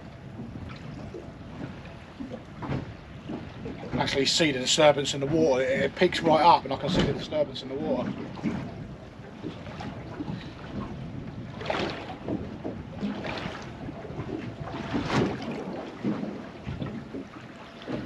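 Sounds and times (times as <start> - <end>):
water lapping against boat hull: 0.0 - 18.0
water splashes: 0.0 - 18.0
wind on microphone: 0.0 - 18.0.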